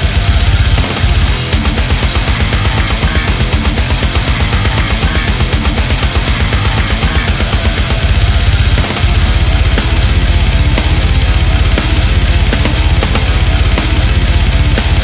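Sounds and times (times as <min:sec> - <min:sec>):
distorted electric guitars: 0:00.0 - 0:15.0
fast dense drumming: 0:00.0 - 0:15.0.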